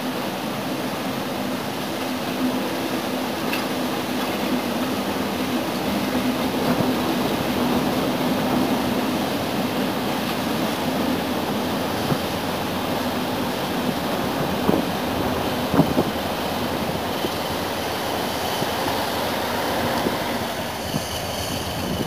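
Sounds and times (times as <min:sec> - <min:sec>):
diesel locomotive engine drone: 0:00.0 - 0:22.0
rushing river: 0:00.0 - 0:22.0.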